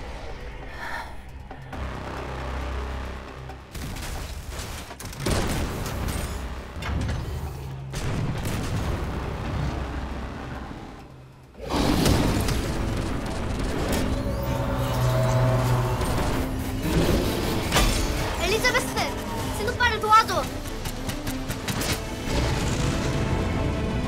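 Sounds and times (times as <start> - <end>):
dramatic music: 0.0 - 24.0.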